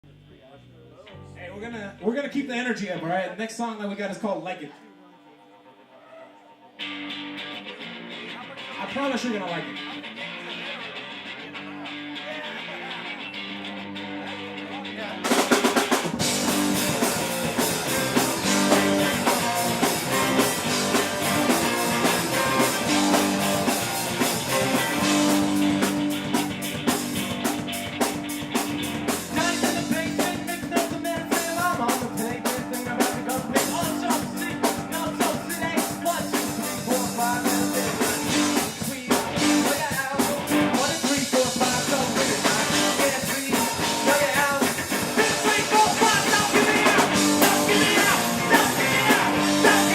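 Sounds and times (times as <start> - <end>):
rock band playing live: 6.8 - 49.9.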